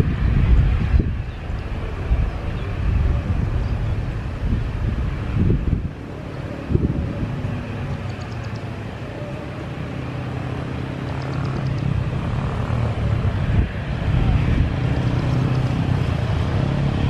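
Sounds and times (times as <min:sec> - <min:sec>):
jet engines low rumble: 0:00.0 - 0:17.0.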